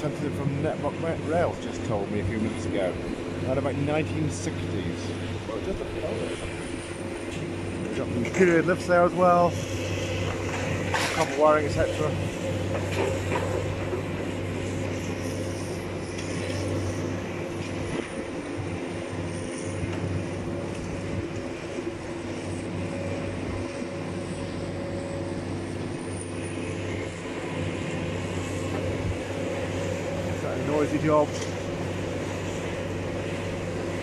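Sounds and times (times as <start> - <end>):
excavator diesel engines droning: 0.0 - 34.0.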